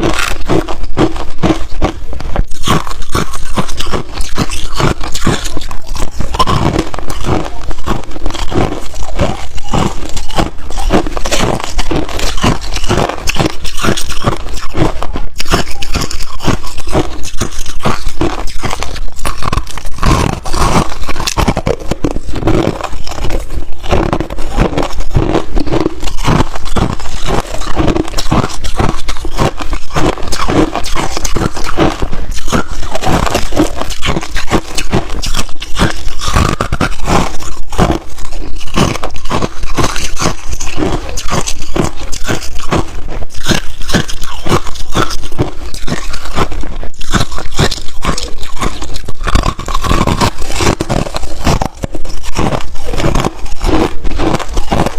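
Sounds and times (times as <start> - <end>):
person chewing ice: 0.0 - 54.9.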